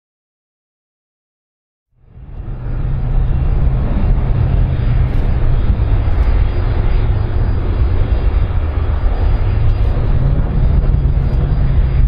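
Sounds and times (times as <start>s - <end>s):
jet engines rumbling: 2.0s - 12.0s.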